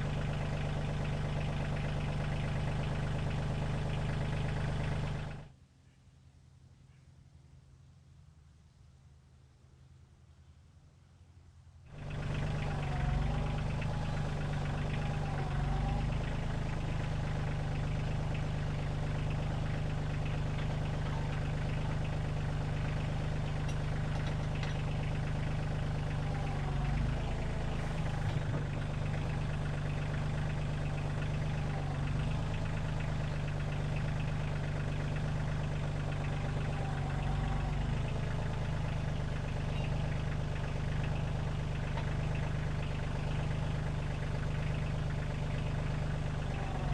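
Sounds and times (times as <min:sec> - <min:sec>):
tractor diesel engine rumbling: 0:00.0 - 0:05.5, 0:11.9 - 0:46.9.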